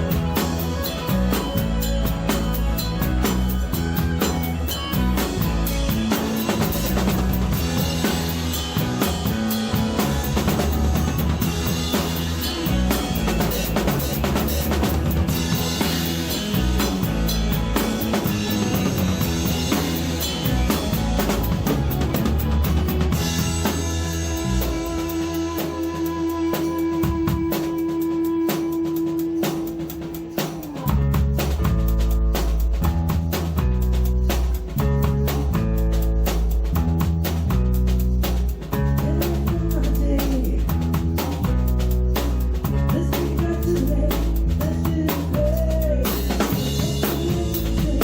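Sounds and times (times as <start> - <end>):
drum and cymbal hits: 0.0 - 48.0
rock band playing: 0.0 - 48.0.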